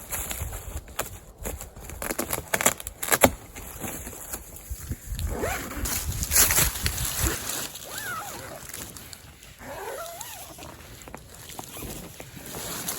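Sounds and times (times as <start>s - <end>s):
tent rustling and clicking: 0.0s - 12.9s.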